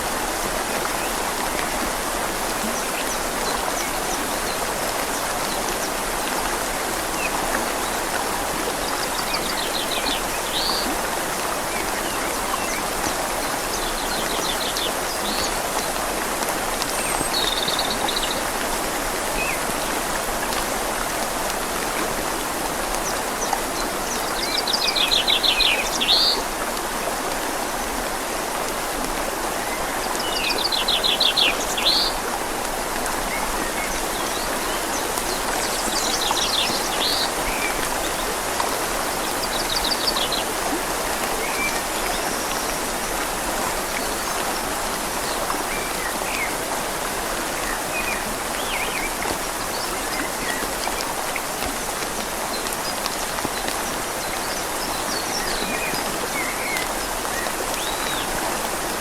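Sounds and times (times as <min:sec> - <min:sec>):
rain falling on leaves: 0:00.0 - 0:59.0
river flowing: 0:00.0 - 0:59.0.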